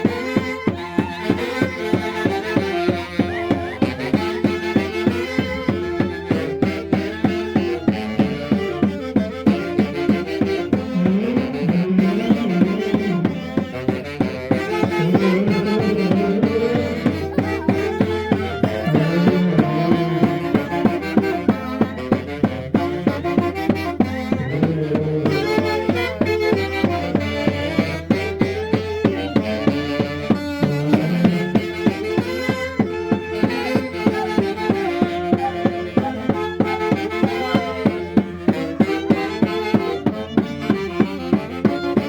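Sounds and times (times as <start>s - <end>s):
band playing dance music: 0.0s - 42.0s
steady drum beat: 0.0s - 42.0s.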